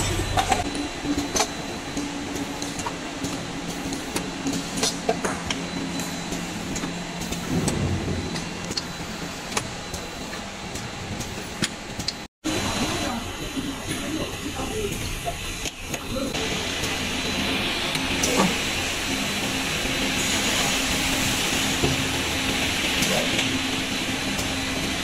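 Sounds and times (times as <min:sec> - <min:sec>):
machinery humming: 0:00.0 - 0:25.0.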